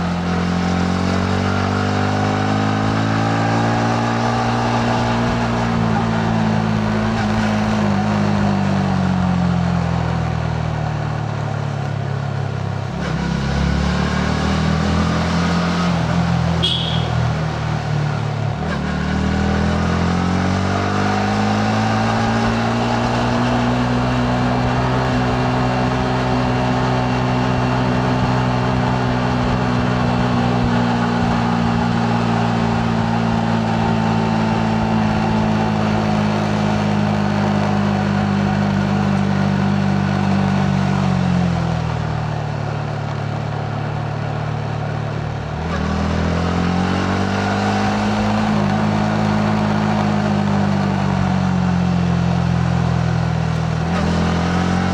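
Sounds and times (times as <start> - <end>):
motorcycle engine while riding: 0.0 - 54.9
wind and road noise: 0.0 - 54.9.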